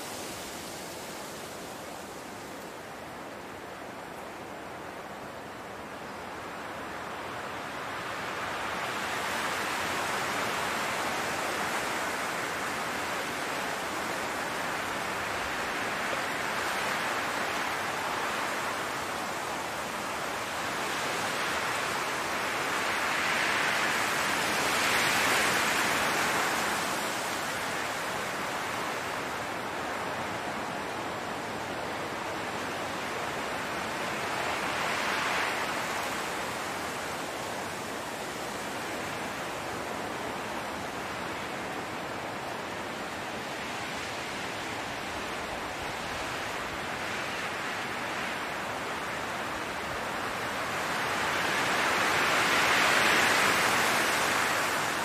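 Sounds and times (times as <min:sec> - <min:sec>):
wind through tall grass: 0:00.0 - 0:55.0.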